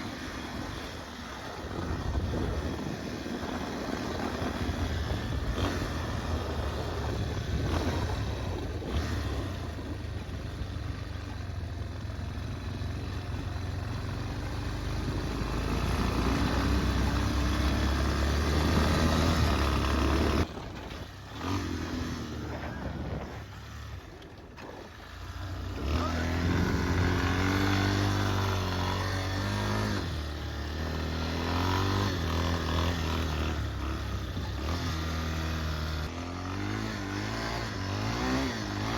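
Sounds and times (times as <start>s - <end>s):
atv engine running under throttle: 0.0s - 38.9s.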